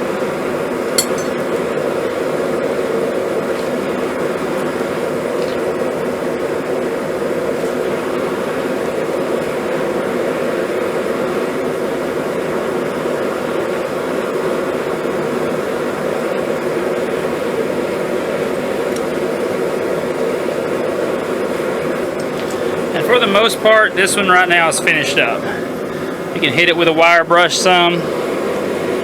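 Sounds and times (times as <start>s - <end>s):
forge running steadily: 0.0s - 29.0s.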